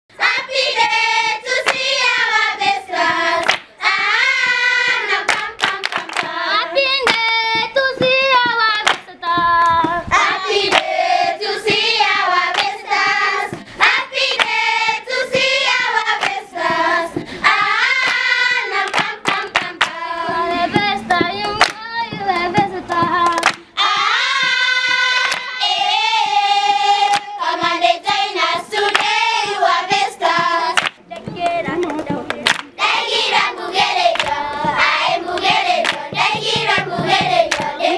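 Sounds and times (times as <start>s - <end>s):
children singing: 0.2s - 8.4s, 10.1s - 30.8s, 32.8s - 37.9s
hand claps: 1.4s - 11.0s, 11.6s - 12.9s, 13.5s - 25.7s, 27.1s - 37.9s.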